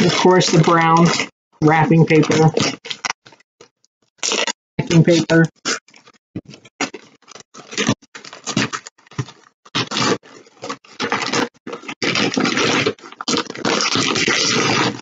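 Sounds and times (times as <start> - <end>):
wrapping paper rustling and crinkling: 0.0 - 3.5, 4.2 - 15.0.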